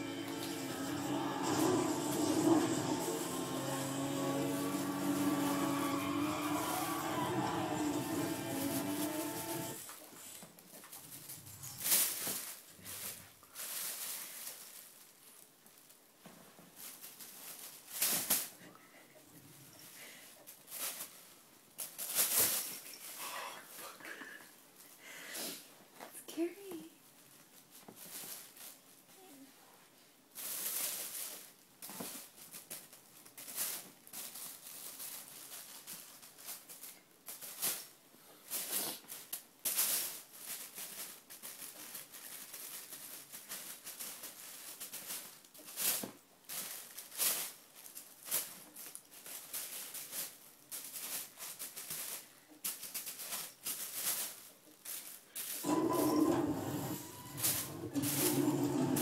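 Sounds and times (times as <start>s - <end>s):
plastic bag crinkling: 0.0s - 19.0s, 30.3s - 59.0s.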